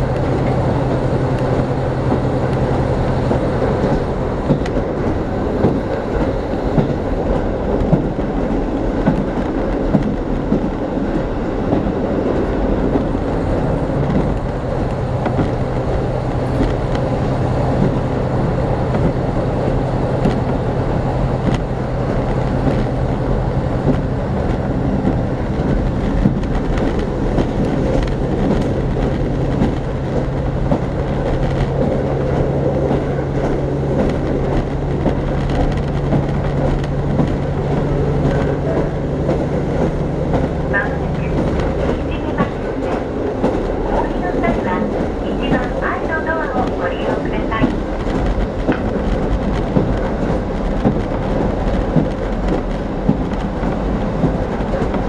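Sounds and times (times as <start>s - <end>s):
low engine hum: 0.0s - 55.0s
rail joint clicks: 0.0s - 55.0s
train wheels rumbling on rail: 0.0s - 55.0s.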